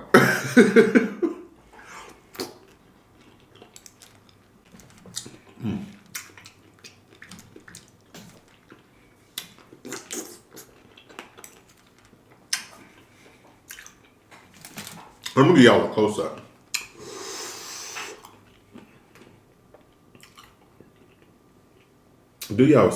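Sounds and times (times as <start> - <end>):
quiet chewing: 1.8 - 15.4, 16.4 - 22.5.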